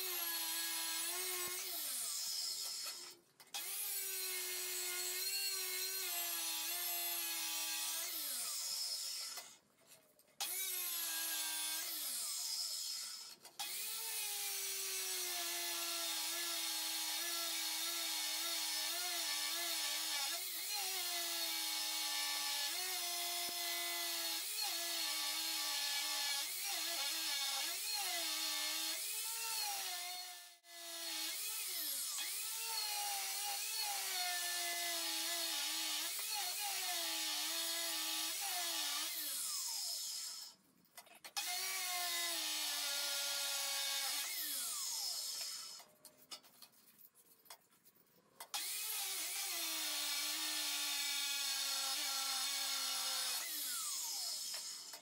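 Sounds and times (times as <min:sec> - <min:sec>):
chop saw grinding through steel: 0:00.0 - 0:09.6, 0:10.4 - 0:40.6, 0:41.3 - 0:46.7, 0:48.5 - 0:55.0.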